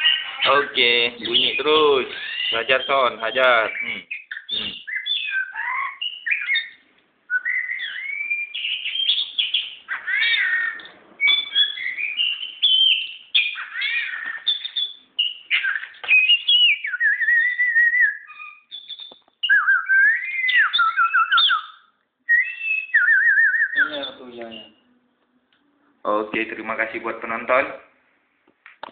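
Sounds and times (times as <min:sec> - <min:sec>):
magpie-robin singing whistled phrases: 0:00.0 - 0:24.9.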